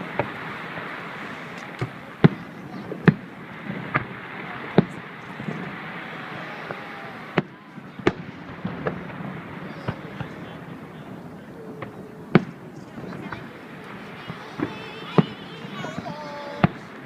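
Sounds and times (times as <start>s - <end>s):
fireworks exploding: 0.0s - 17.0s
steady background hiss: 0.0s - 17.0s.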